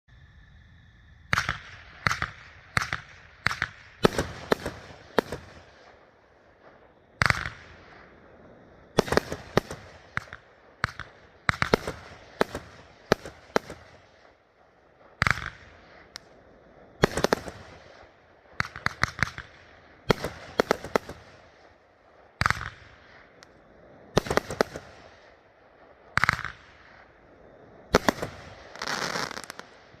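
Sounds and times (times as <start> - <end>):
firework bangs: 1.3 - 23.5, 24.1 - 27.2, 27.8 - 30.0
firework crackling: 1.3 - 30.0.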